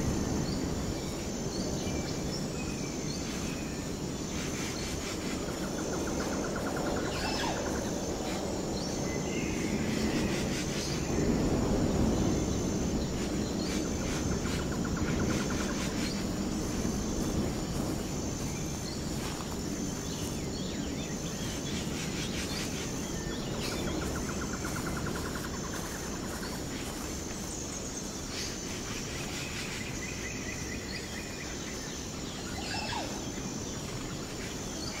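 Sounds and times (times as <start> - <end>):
steady low rumble: 0.0 - 29.8.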